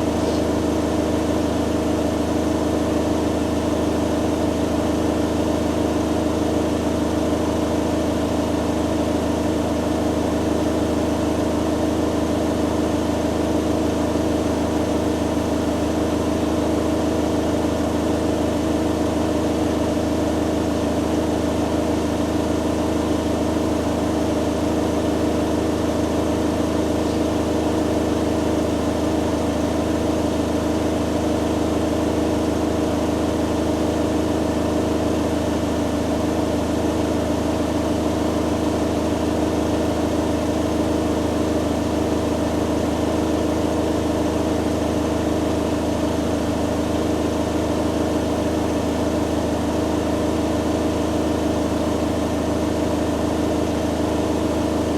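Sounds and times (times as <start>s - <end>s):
washing machines spinning: 0.0s - 54.9s.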